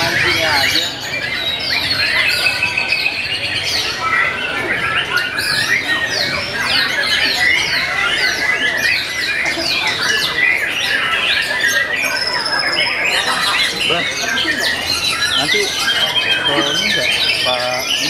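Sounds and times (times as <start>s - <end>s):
birds singing whistles and chirps: 0.0s - 18.0s.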